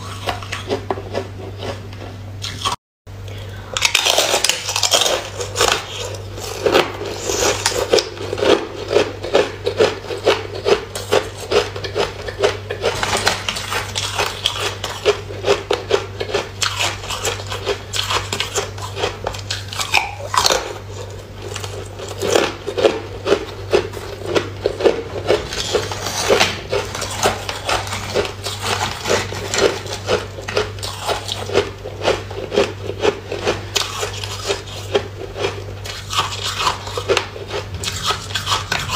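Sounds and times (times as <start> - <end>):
ice being chewed with crisp crunches: 0.0 - 2.8, 3.7 - 38.9
steady low hum: 0.0 - 38.9.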